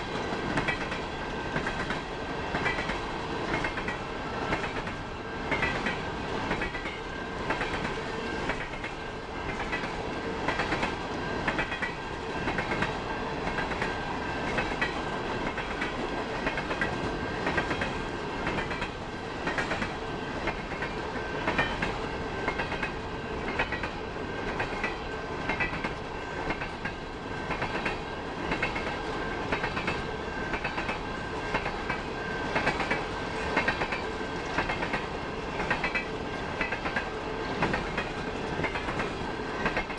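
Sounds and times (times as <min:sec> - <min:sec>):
train rumble: 0:00.0 - 0:39.9
train wheels clattering over rail joints: 0:00.0 - 0:39.9.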